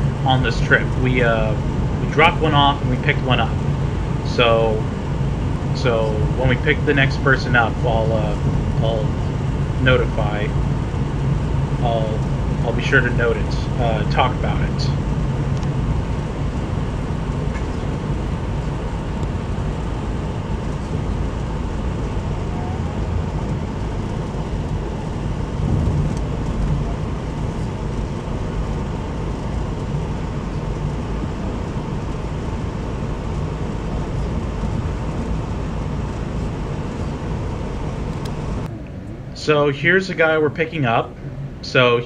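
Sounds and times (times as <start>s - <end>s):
passenger train rumble and hiss: 0.0s - 42.0s.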